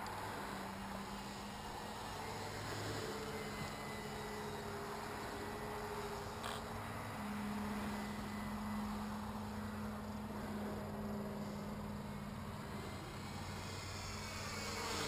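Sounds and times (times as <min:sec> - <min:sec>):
distant model plane propellers droning: 0:00.0 - 0:15.0.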